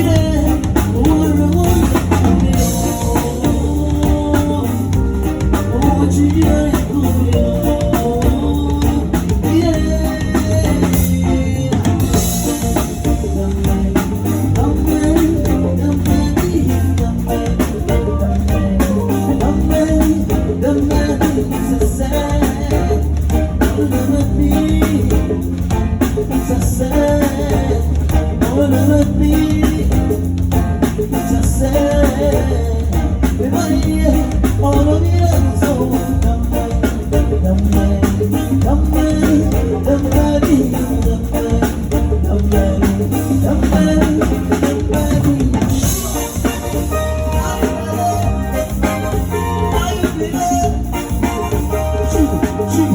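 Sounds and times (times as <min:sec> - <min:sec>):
deep bass line: 0:00.0 - 0:52.9
drum kit beat: 0:00.0 - 0:52.9
live band playing: 0:00.0 - 0:52.9.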